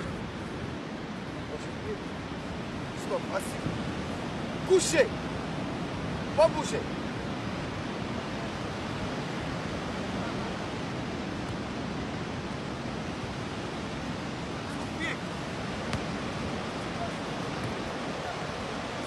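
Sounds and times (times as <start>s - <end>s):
surf: 0.0s - 19.0s.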